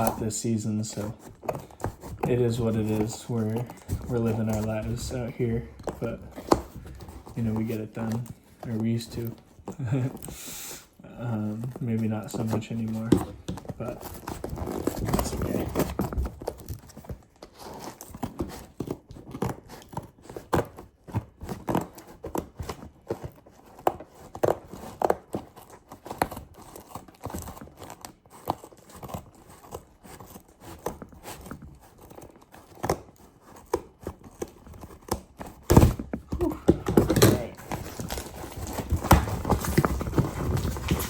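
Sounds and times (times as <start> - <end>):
packaging tearing and crinkling: 0.0 - 10.3, 11.5 - 41.0.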